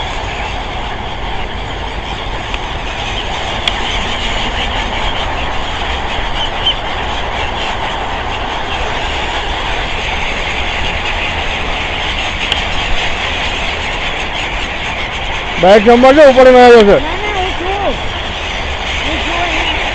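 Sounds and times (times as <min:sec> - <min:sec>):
outdoor background roar: 0:00.0 - 0:19.9.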